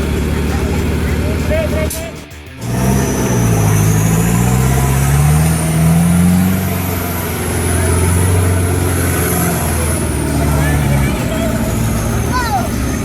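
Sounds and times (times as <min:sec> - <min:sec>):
engine running under load: 0:00.0 - 0:13.0
high whine: 0:00.0 - 0:13.0.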